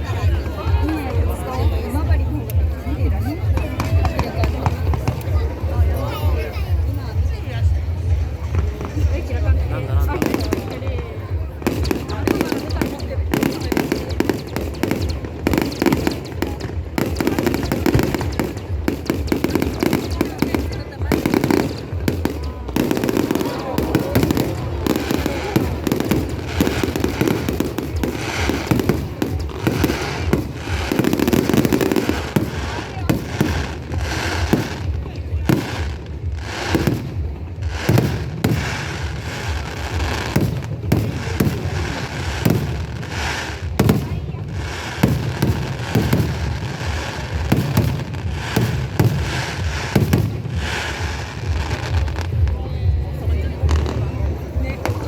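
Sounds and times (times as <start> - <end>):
fireworks bursting: 0.0 - 55.0
fireworks crackling: 0.0 - 55.0
people's voices: 0.0 - 55.0.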